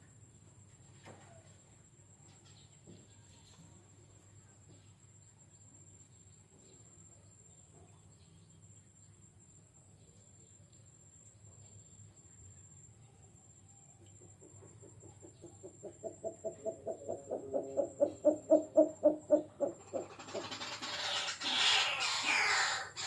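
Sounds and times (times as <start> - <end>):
faint high-pitched whine: 0.0 - 22.2.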